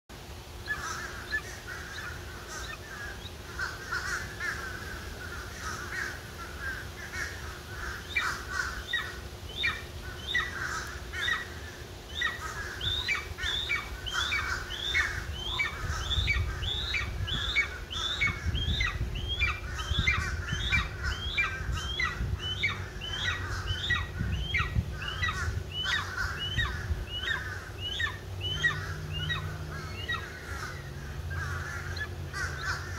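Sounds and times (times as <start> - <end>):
eagle yelping: 0.6 - 4.8, 7.2 - 32.9.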